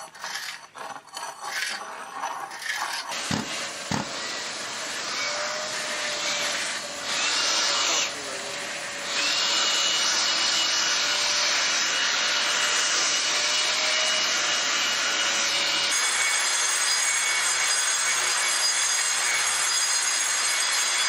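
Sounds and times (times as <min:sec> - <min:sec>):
power tool running: 0:01.5 - 0:21.0.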